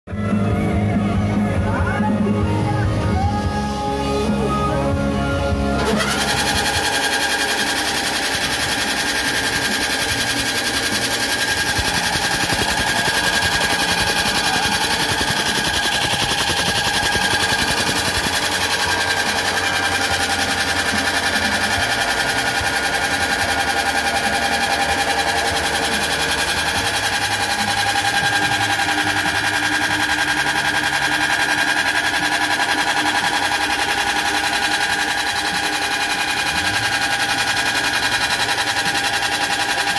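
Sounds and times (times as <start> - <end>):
machine humming: 0.1 - 39.9
soybeans rattling through machine: 5.8 - 39.9.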